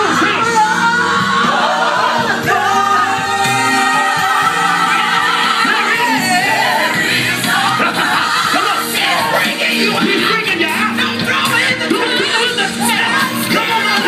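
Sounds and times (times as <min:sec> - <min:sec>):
band accompaniment: 0:00.0 - 0:14.0
voices singing gospel: 0:00.0 - 0:14.0.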